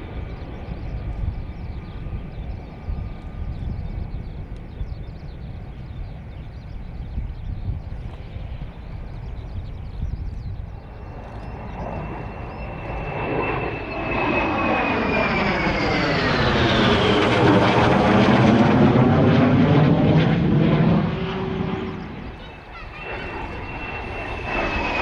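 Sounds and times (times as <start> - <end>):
airplane flying past: 0.0 - 25.0.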